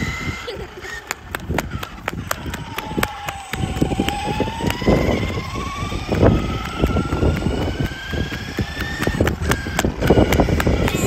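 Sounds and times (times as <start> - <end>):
low rumble of car on ground: 0.0 - 11.0
rc car motor whining: 0.0 - 11.0.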